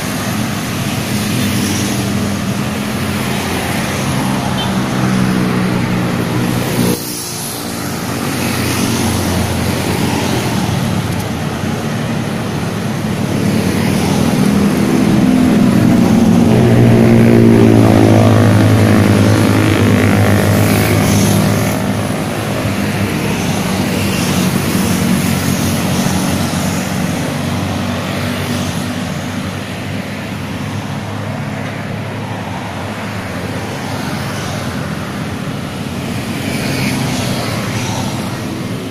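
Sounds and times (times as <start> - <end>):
motorbikes and cars passing: 0.0 - 38.9.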